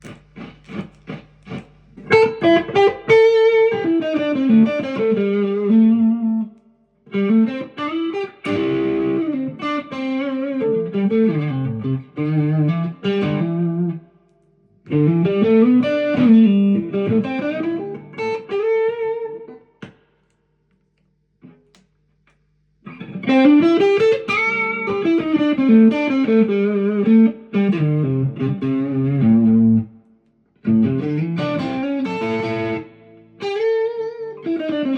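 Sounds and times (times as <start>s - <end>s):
electric guitar melodic lines: 0.0s - 14.1s, 14.9s - 20.0s, 22.8s - 30.0s, 30.6s - 34.9s.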